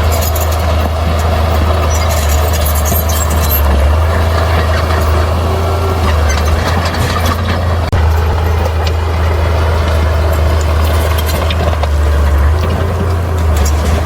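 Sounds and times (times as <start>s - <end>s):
bulldozer diesel engine drone: 0.0s - 14.0s
clanks and scrapes of tracks: 0.0s - 14.0s.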